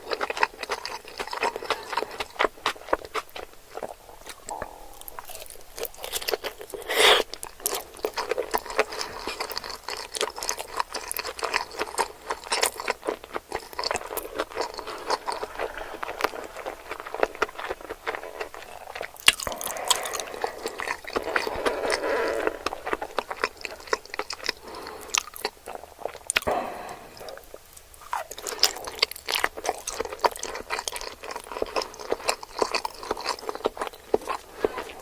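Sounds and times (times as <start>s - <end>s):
close chewing with mouth clicks: 0.0s - 35.0s.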